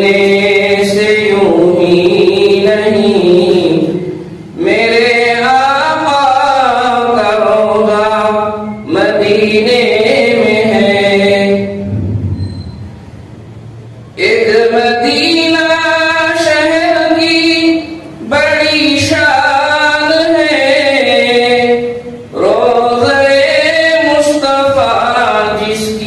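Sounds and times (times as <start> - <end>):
person chanting melodically: 0.0 - 12.0, 14.2 - 26.0.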